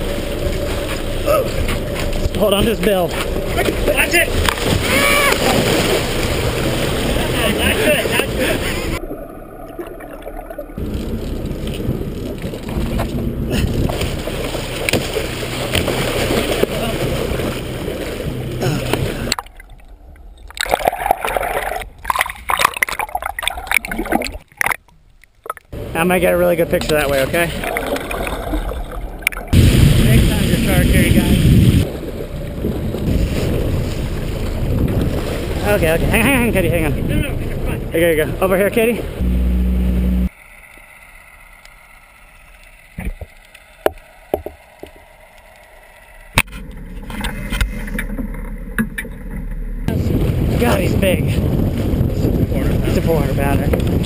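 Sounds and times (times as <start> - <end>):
boat and wind noise: 0.0 - 22.2, 25.7 - 41.6, 42.8 - 54.0
muffled water splashing and bubbling: 0.0 - 40.9, 42.2 - 54.0.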